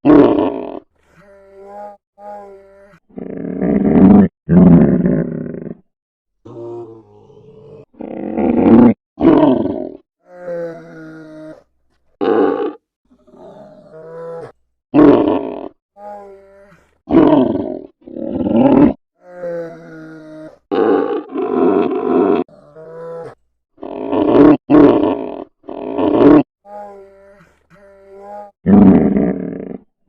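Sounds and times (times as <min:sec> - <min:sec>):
bear growling: 0:00.0 - 0:05.9, 0:06.5 - 0:29.9.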